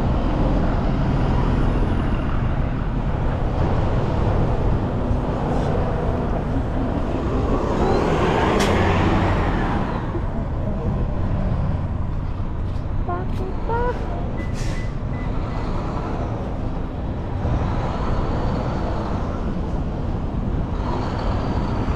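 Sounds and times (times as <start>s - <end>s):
bus driving past: 0.0s - 21.9s
steady traffic noise: 0.0s - 21.9s.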